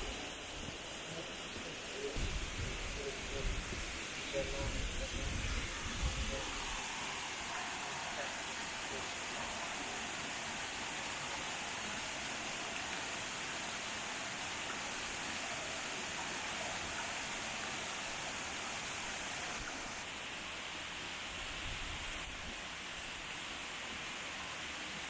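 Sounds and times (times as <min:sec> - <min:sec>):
waterfall rushing onto rocks: 0:00.0 - 0:25.0.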